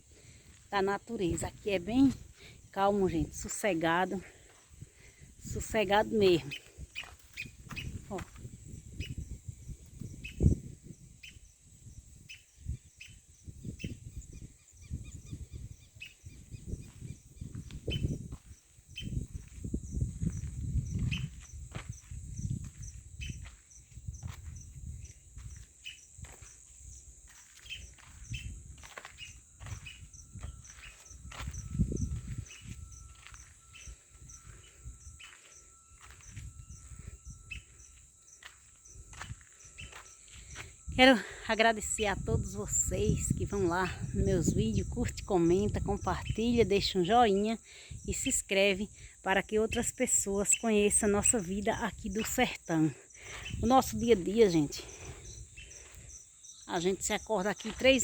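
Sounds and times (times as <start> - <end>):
high insect chirps: 0.0 - 58.0
insect buzz: 0.0 - 58.0.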